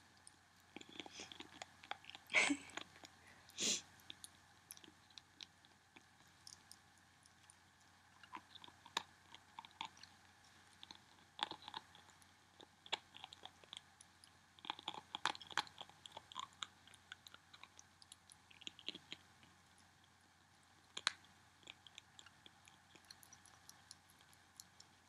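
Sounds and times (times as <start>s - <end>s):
ferret chewing and licking: 0.0s - 25.0s.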